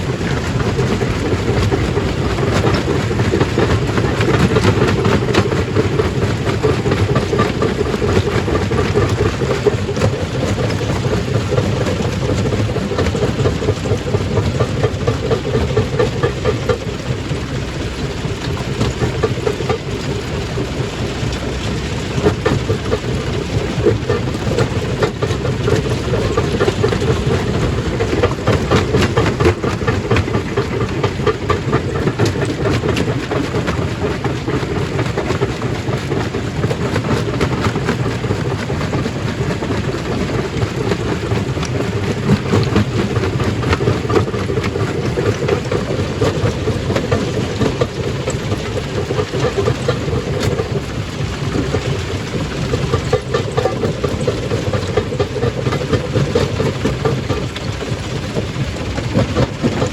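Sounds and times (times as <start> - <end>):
stone crushing machine running: 0.0 - 59.9.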